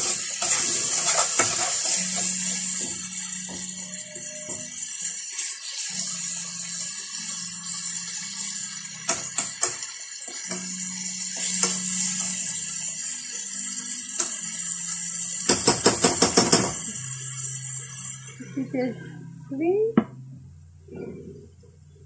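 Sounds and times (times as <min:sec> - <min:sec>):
vegetables sizzling in pot: 0:00.0 - 0:18.9.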